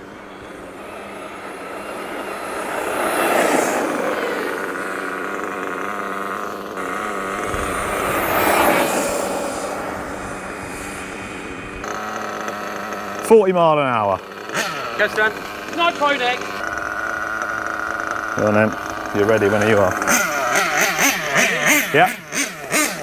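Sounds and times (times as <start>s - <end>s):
rc engine buzzing idle: 0.0s - 23.0s
rc truck passing: 0.0s - 23.0s.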